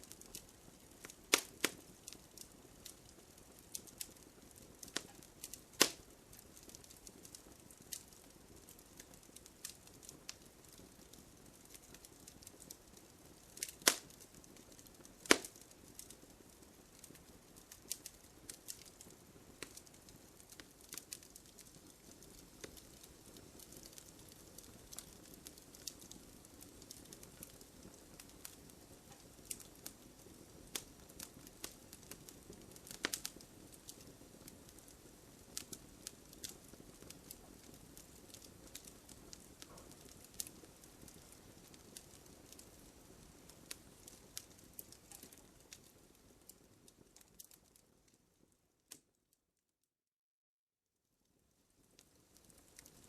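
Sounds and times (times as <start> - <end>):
campfire snaps and pops: 0.0 - 47.9, 48.9 - 49.2, 51.9 - 53.0
soft hiss of fire: 0.0 - 49.2, 51.1 - 53.0.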